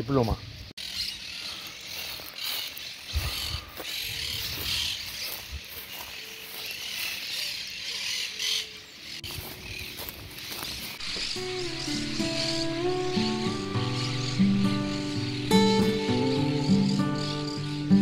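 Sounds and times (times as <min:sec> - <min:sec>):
footsteps rustling through brush: 0:00.8 - 0:17.9.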